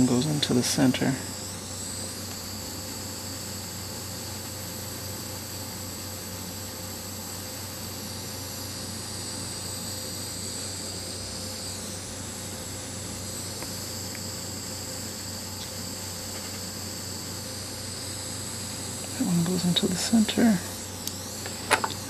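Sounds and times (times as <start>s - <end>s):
high-pitched whine: 0.0s - 22.0s
low electrical hum: 0.0s - 22.0s.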